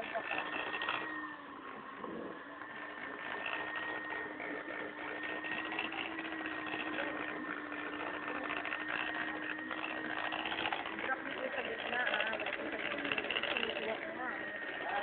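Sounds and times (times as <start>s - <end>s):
electric hand mixer running: 0.0s - 15.0s.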